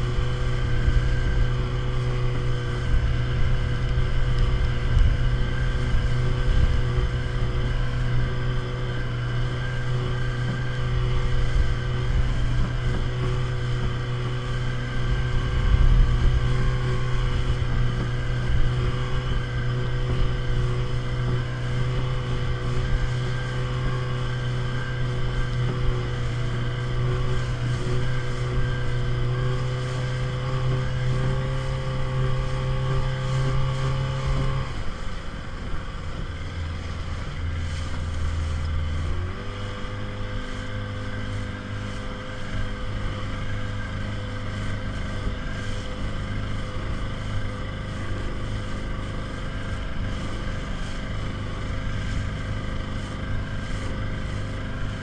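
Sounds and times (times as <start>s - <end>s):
outboard motor running: 0.0s - 55.0s
rough low rumbling: 0.0s - 55.0s.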